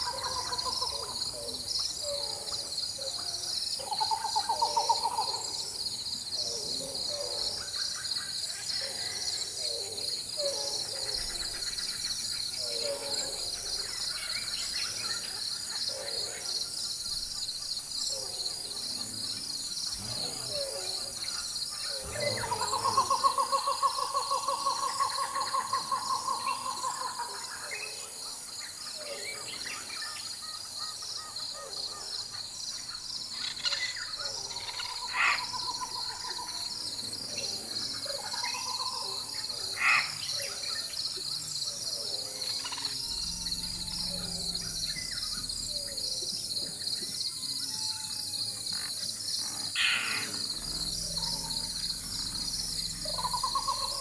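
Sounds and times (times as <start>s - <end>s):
birds calling: 0.0s - 54.0s
insect chorus buzzing: 0.0s - 54.0s.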